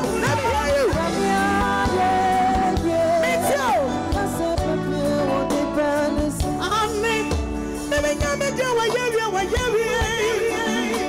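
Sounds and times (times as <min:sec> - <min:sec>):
band with keyboards bass drums: 0:00.0 - 0:11.0
woman singing into microphone: 0:00.0 - 0:11.0.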